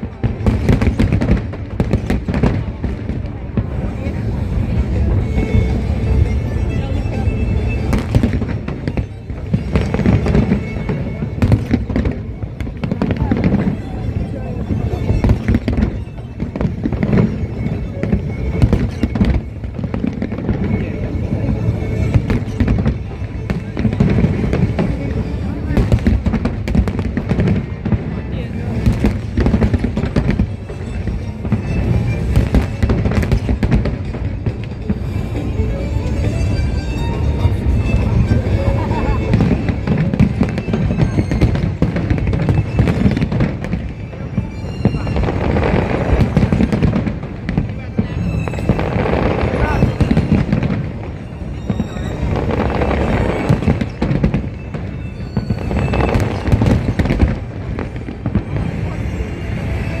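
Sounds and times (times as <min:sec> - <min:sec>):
fireworks exploding: 0:00.0 - 1:00.0
people's voices: 0:00.0 - 1:00.0
music playing: 0:03.6 - 1:00.0.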